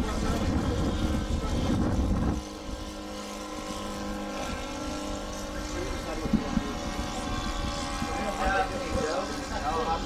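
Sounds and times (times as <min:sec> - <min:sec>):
model airplane engine drone: 0:00.0 - 0:10.0.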